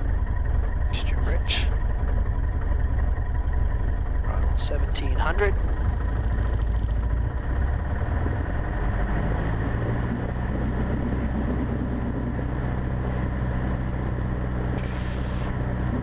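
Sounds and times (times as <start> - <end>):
airplane engine running: 0.0 - 16.0.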